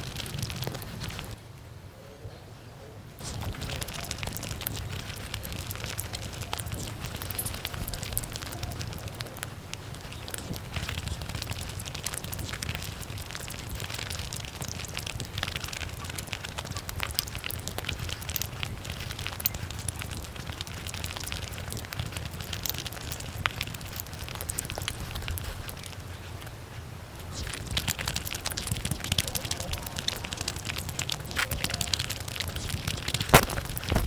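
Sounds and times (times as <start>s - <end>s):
rapid chewing crackle: 0.0s - 1.4s, 3.2s - 34.0s.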